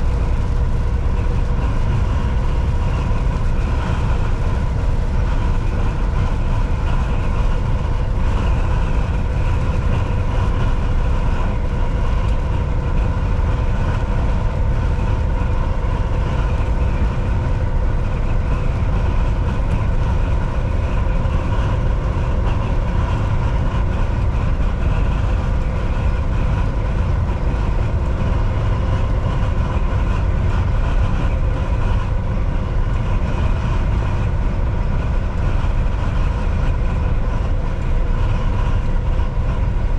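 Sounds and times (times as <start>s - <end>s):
faint steady whine: 0.0s - 39.9s
road rumble: 0.0s - 39.9s
truck engine drone: 0.0s - 39.9s.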